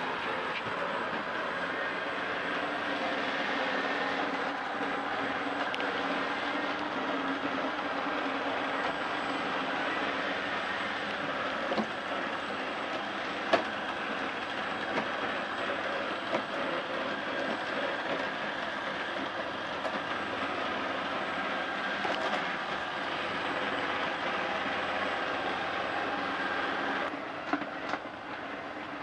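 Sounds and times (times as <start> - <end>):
robot vacuum whirring: 0.0 - 29.0.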